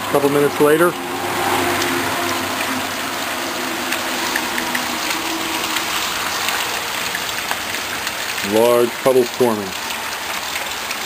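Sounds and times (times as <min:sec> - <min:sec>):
heavy rain on wet ground: 0:00.0 - 0:11.0.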